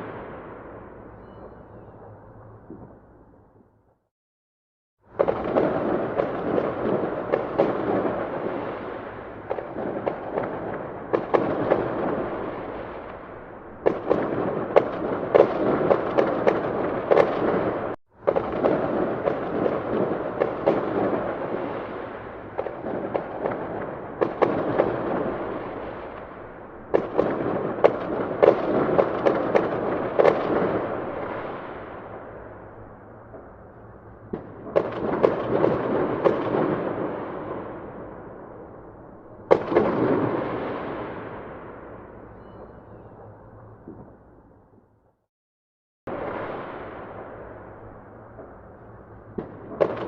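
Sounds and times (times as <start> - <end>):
fireworks bangs and crackling: 0.0 - 3.1, 5.0 - 44.3, 46.1 - 50.0.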